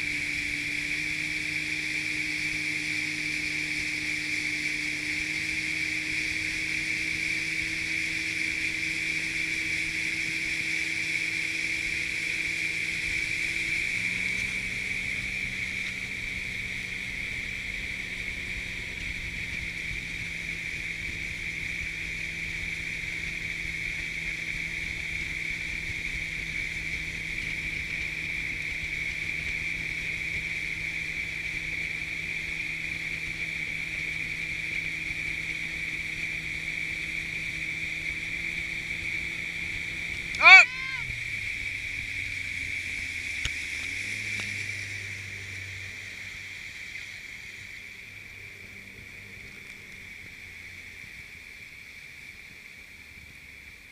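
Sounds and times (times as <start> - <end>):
motorboat engine running: 0.0 - 53.9.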